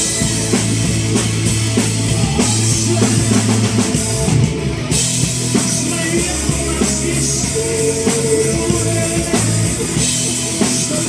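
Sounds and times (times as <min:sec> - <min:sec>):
bass guitar: 0:00.0 - 0:11.0
drum kit: 0:00.0 - 0:11.0
electric guitar: 0:00.0 - 0:11.0.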